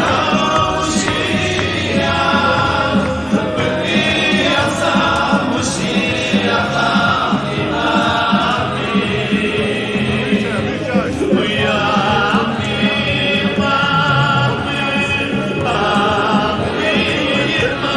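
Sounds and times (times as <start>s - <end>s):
group of voices singing: 0.0s - 17.9s
steady music beat: 0.0s - 17.9s.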